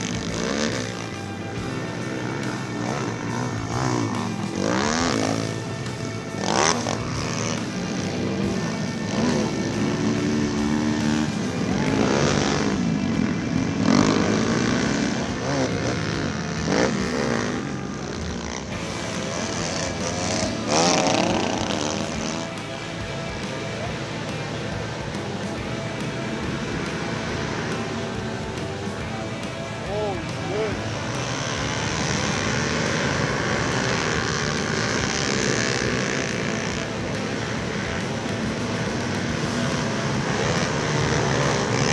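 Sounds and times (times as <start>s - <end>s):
pit bike engines revving: 0.0s - 41.9s.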